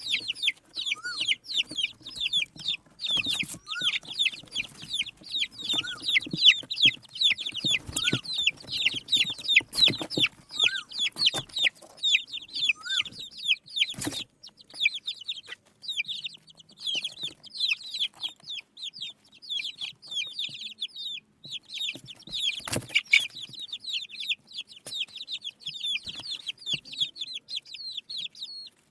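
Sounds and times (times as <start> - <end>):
chicks cheeping: 0.0 - 28.9.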